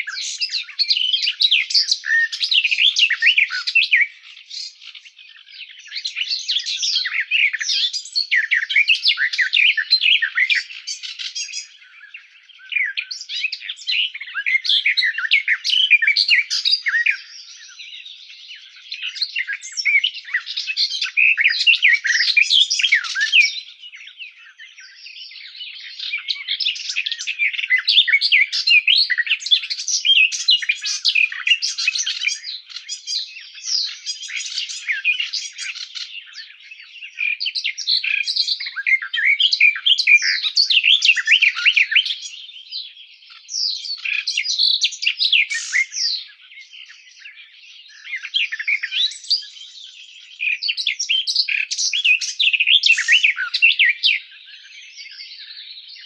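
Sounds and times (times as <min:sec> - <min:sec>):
bird warbling song: 0:00.0 - 0:56.0.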